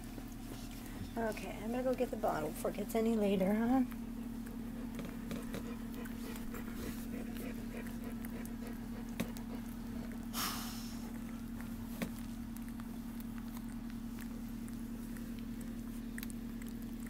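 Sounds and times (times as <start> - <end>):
puppies suckling: 0.0 - 17.0.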